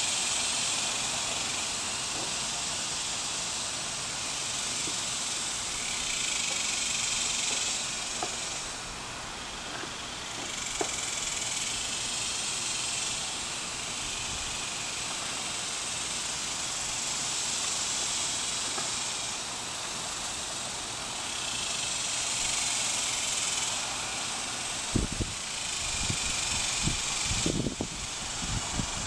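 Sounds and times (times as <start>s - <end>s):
bee vacuum hissing: 0.0s - 29.0s.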